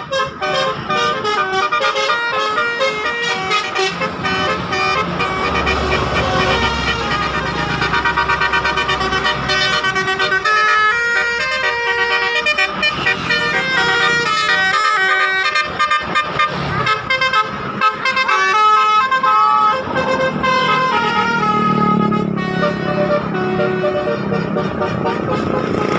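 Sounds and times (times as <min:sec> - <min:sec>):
multi-tone bus horn tune: 0:00.0 - 0:25.9.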